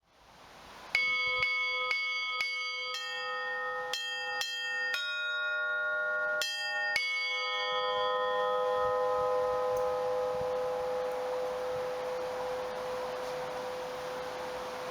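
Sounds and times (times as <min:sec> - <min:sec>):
church bells ringing: 0:01.0 - 0:14.9.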